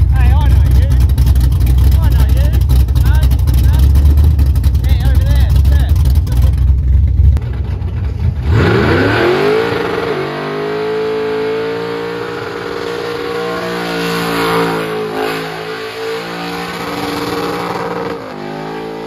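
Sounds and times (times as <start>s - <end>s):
car engine revving hard: 0.0s - 7.3s, 8.4s - 19.0s.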